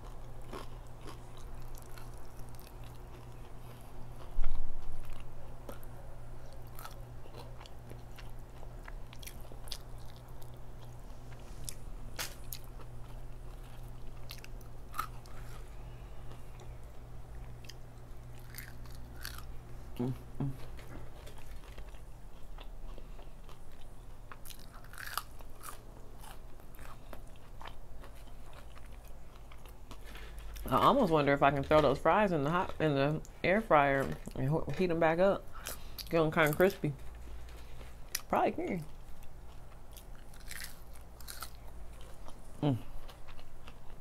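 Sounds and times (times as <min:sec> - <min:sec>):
chewing crispy fried chicken: 0:00.0 - 0:33.3, 0:35.5 - 0:44.0
steady low hum: 0:00.0 - 0:44.0.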